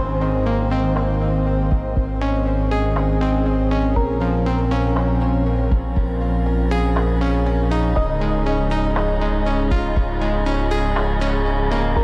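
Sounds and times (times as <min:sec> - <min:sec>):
deep low thumps: 0:00.0 - 0:12.0.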